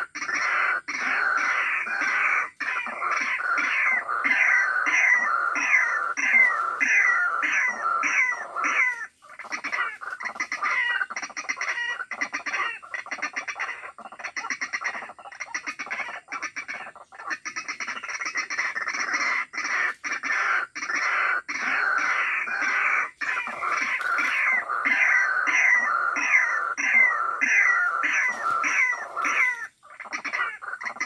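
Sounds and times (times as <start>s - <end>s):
waterhen calling: 0.0s - 31.0s.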